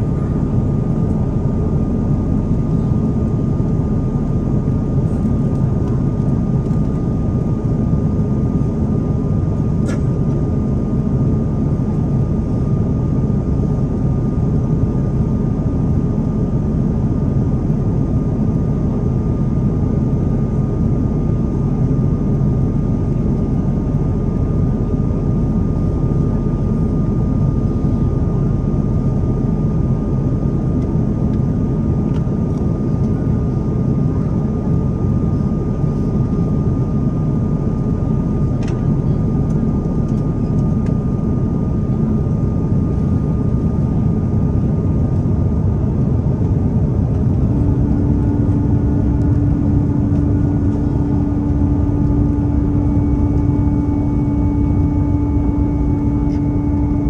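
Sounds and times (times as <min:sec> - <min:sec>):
engine and air rumble: 0:00.0 - 0:57.0
thin steady whine: 0:00.0 - 0:57.0.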